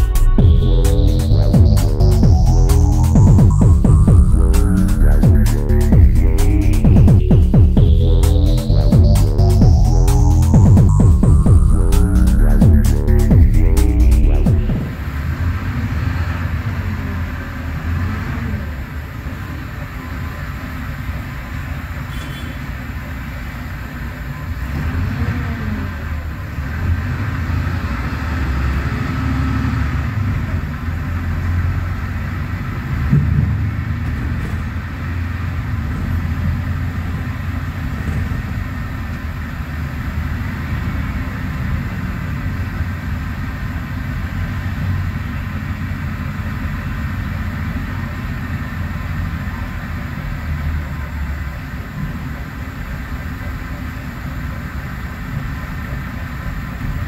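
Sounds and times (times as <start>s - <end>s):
diesel bus engine under load: 0.0s - 57.0s.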